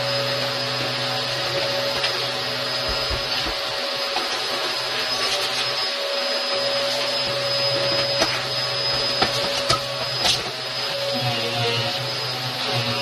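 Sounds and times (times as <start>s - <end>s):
shop vacuum running: 0.0s - 13.0s.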